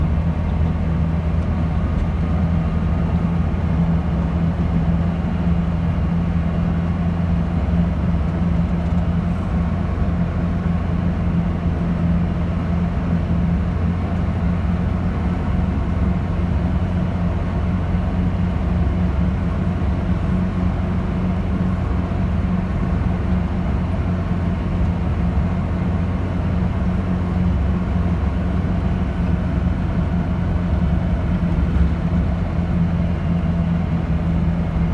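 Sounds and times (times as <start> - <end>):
car engine hum: 0.0 - 34.9
road and tyre noise: 0.0 - 34.9.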